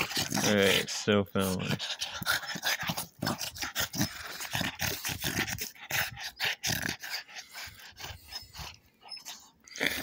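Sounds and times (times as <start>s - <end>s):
dog play growls and huffs: 0.0s - 10.0s.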